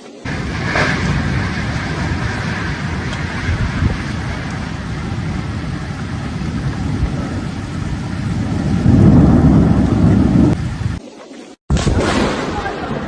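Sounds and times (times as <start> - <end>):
storm wind buffeting microphone: 0.2 - 11.0.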